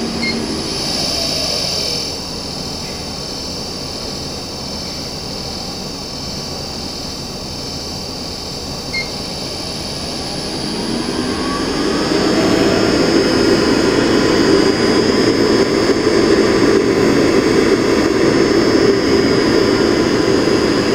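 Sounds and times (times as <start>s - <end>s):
oven fan motor whining: 0.0s - 20.9s.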